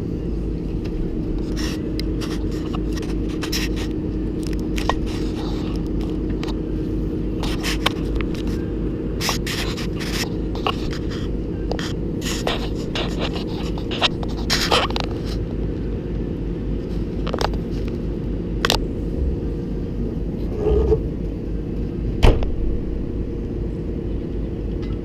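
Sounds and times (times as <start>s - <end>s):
excavator diesel engine humming: 0.0s - 25.0s.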